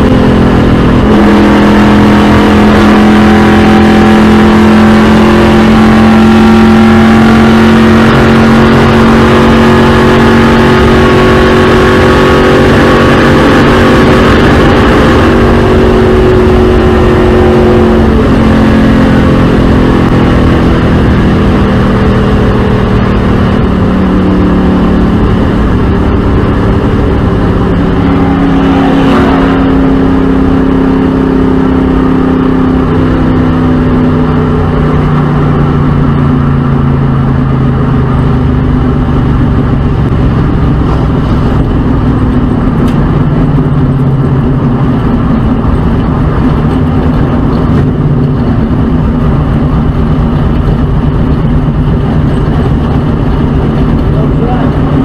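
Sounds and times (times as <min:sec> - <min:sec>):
race car engine drone: 0:00.0 - 0:55.0
road and wind noise: 0:00.0 - 0:55.0.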